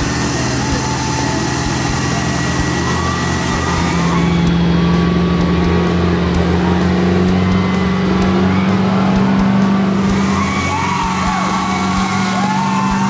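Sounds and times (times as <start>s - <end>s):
truck engine at high revs: 0.0s - 13.0s
wavering high squeals: 0.0s - 13.0s.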